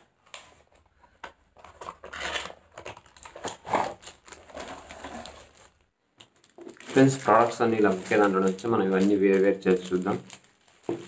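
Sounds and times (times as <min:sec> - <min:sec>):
rustling of cardboard and plastic: 0:00.0 - 0:11.0.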